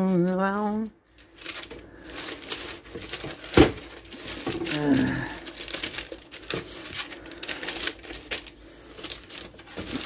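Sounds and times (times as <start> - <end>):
parchment paper crinkling: 0.0 - 10.0.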